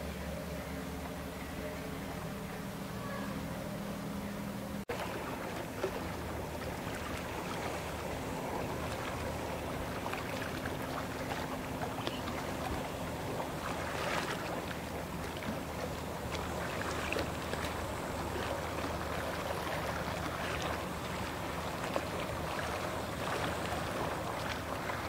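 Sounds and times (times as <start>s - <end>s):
boat engine humming: 0.0s - 25.0s
rushing splashing water: 4.9s - 25.0s.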